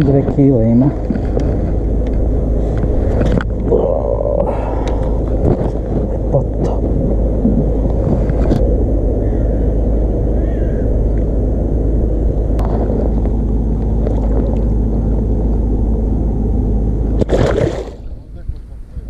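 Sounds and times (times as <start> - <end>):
loud low rumble: 0.0 - 19.0.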